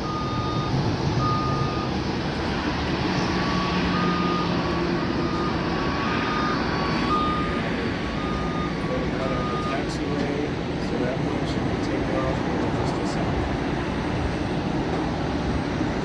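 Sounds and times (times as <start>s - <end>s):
airport rumble: 0.0s - 16.0s.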